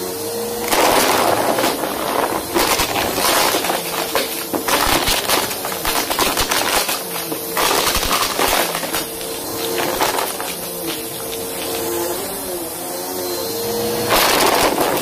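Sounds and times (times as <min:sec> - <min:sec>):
vacuum cleaner motor whine: 0:00.0 - 0:15.0
debris crackling in vacuum: 0:00.4 - 0:15.0.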